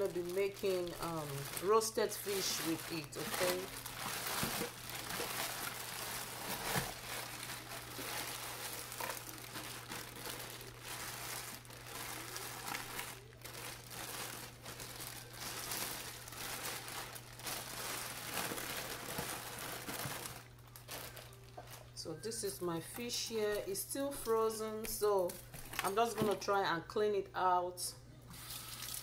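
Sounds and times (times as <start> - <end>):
plastic bags crinkling: 0.0 - 22.0, 25.2 - 26.4, 28.4 - 29.0.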